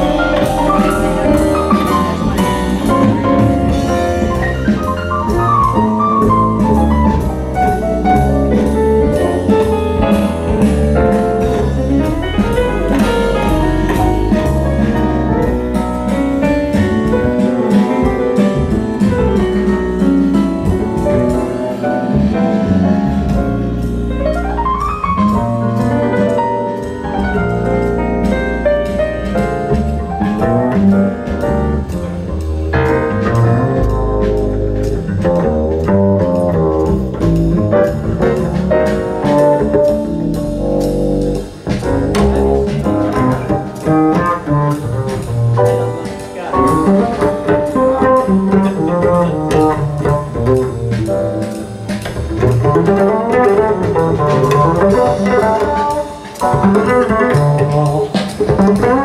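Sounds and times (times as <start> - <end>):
jazz music with steady beat: 0.0 - 59.0.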